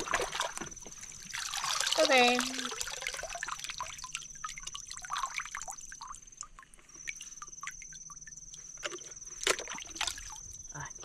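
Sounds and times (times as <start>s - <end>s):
water splashing: 0.0s - 7.8s, 8.6s - 10.5s.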